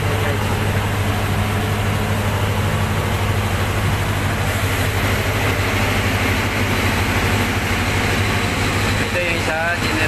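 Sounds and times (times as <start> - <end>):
generator engine drone: 0.0 - 10.0.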